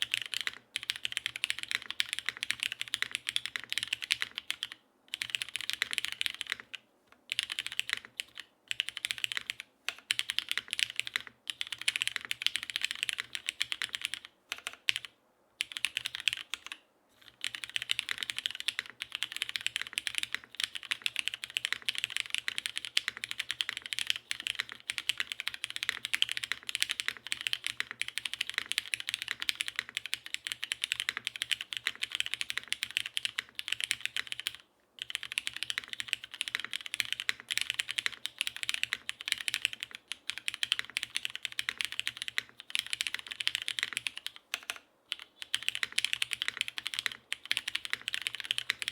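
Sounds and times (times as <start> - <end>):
fast typing on mechanical keyboard: 0.0 - 48.9.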